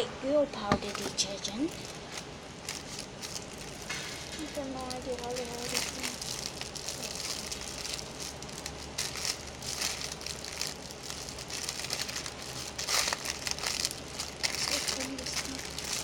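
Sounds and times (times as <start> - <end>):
packaging rustling and crinkling: 0.8 - 16.0.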